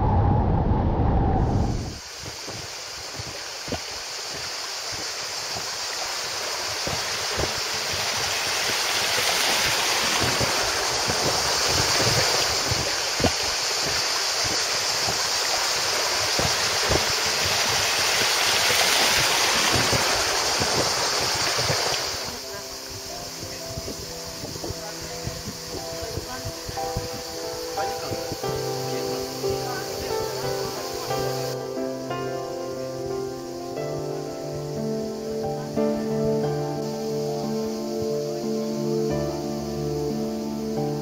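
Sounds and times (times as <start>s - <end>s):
river water flowing: 1.8s - 41.0s.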